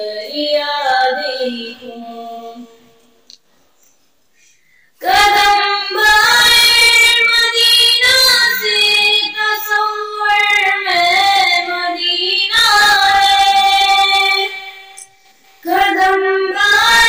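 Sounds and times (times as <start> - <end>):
girl singing into microphone: 0.0 - 2.9, 5.0 - 15.0, 15.6 - 17.0.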